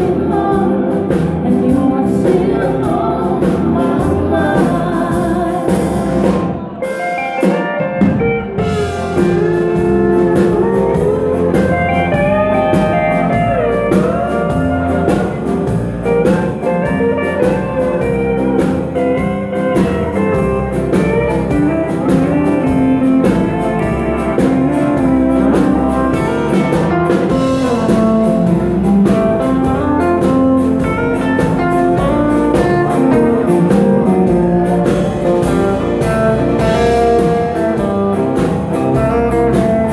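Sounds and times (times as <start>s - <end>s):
live band dance music: 0.0s - 39.9s.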